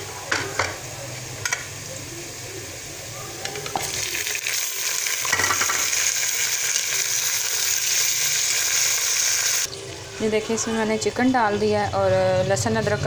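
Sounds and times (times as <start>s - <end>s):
onions sizzling in hot oil: 0.0s - 11.7s.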